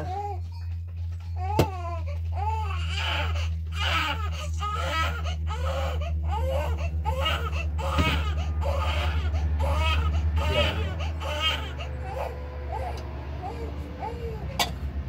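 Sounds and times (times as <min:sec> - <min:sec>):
steady low hum: 0:00.0 - 0:15.0
infant crying: 0:01.4 - 0:14.8.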